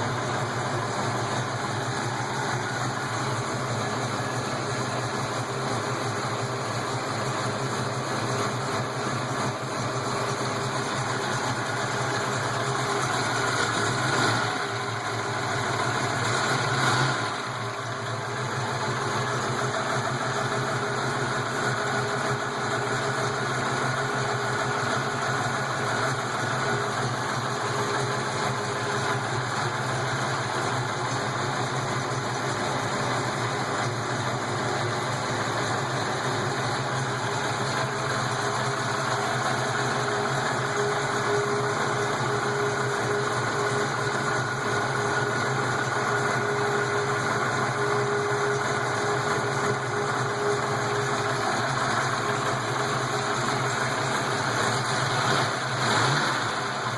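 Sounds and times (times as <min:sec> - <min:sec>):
engine idling: 0:00.0 - 0:56.9.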